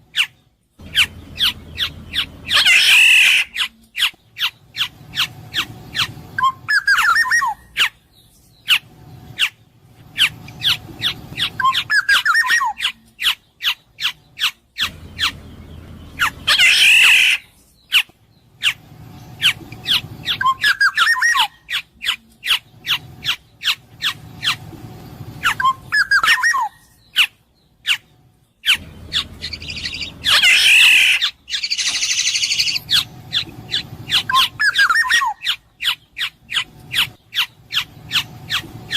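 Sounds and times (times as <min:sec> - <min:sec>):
bird harsh squawk: 0:00.1 - 0:08.0, 0:08.6 - 0:18.8, 0:19.4 - 0:24.6, 0:25.4 - 0:38.9.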